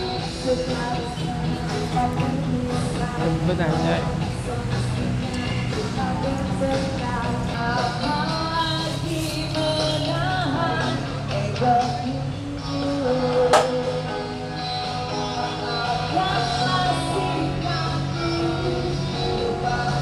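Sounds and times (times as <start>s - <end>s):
rock song with vocals: 0.0s - 20.0s.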